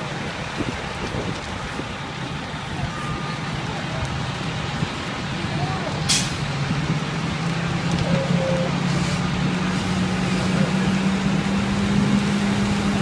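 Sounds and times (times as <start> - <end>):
continuous rushing noise: 0.0 - 13.0
large engine humming: 0.0 - 13.0.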